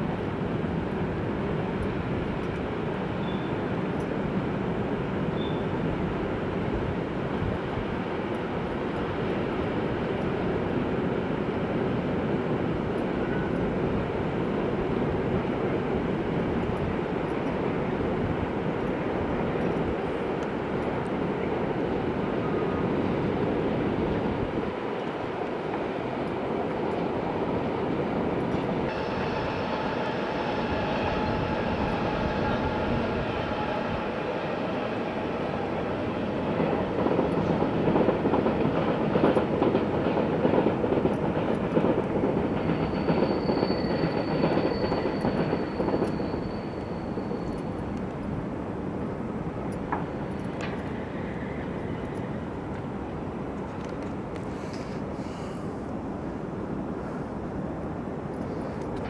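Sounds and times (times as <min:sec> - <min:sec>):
electric train rumbling: 0:00.0 - 0:59.0.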